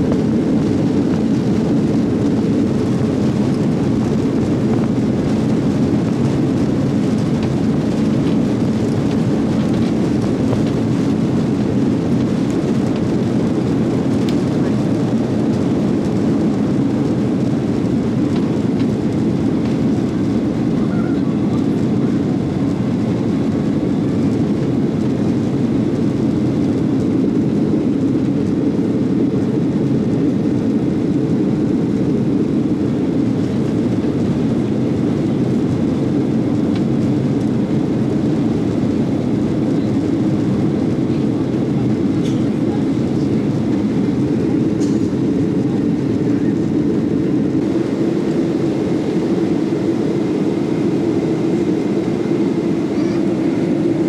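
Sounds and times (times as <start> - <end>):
airliner cabin engine roar: 0.0 - 54.0.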